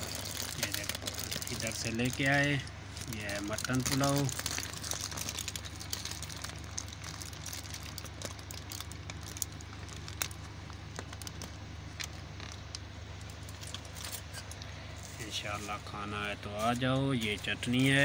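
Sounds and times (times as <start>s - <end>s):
plastic bag and foil crinkling: 0.0s - 18.0s
steady low hum: 0.0s - 18.0s.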